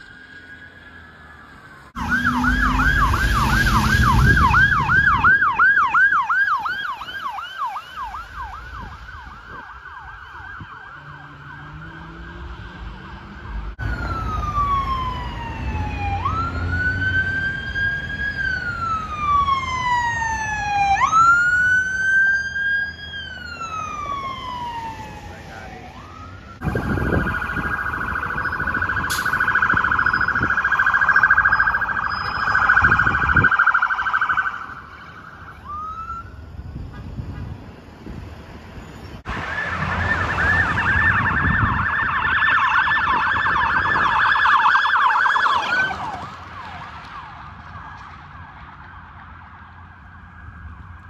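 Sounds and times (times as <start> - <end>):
police siren: 0.0 - 51.0.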